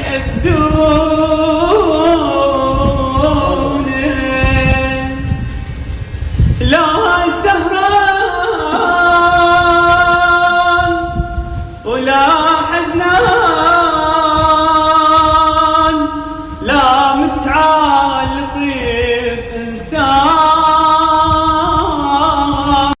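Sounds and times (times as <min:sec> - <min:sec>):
man singing ornamented notes: 0:00.0 - 0:05.7, 0:06.6 - 0:23.0.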